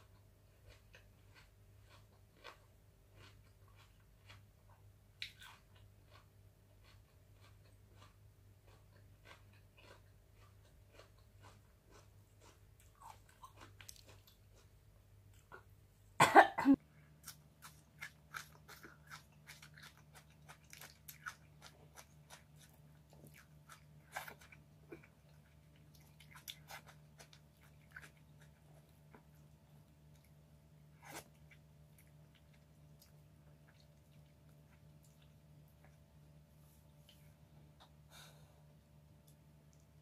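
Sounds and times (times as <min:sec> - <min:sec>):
person chewing food: 0:00.0 - 0:15.8, 0:16.7 - 0:40.0.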